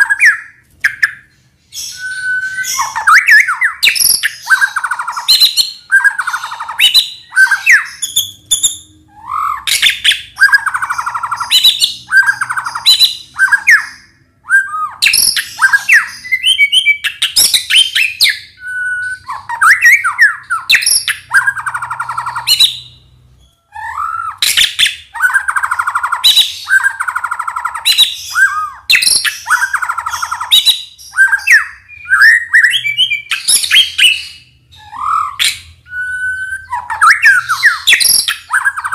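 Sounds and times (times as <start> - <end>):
songbird singing trills and whistles: 0.0 - 38.9.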